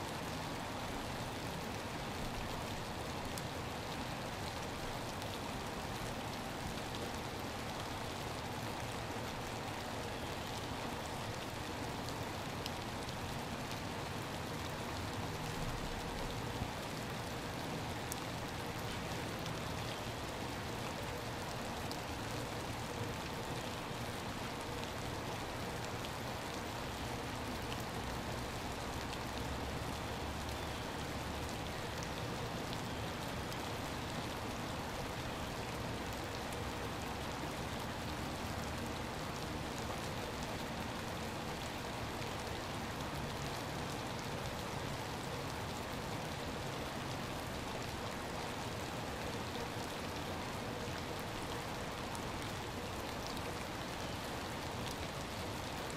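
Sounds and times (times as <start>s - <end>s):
rain hissing on water: 0.0s - 55.9s.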